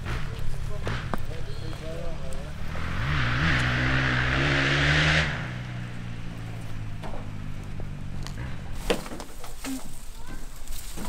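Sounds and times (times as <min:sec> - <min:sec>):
low engine hum: 0:00.0 - 0:10.7
car engine with tyre noise: 0:00.0 - 0:11.0.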